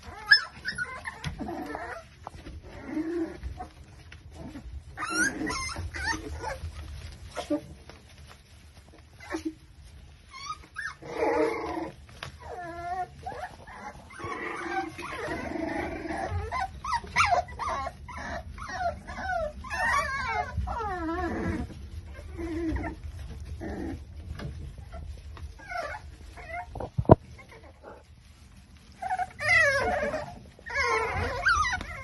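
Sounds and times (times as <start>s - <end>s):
puppies whimpering and yipping: 0.0s - 32.0s.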